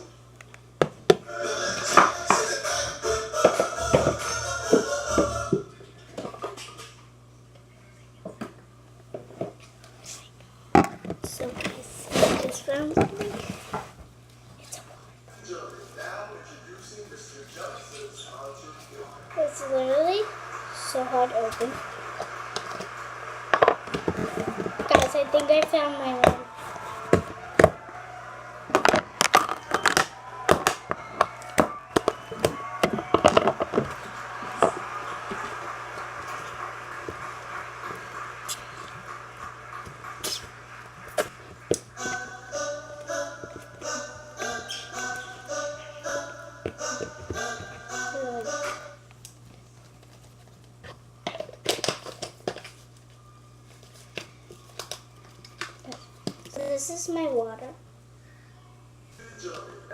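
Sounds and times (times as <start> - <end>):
steady low hum: 0.0 - 51.6.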